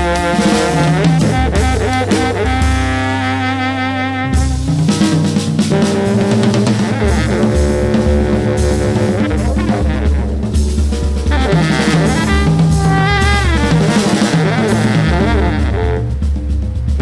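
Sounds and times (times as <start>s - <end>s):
baritone saxophone low notes: 0.0s - 17.0s
busy jazz drumming with cymbals: 0.0s - 17.0s.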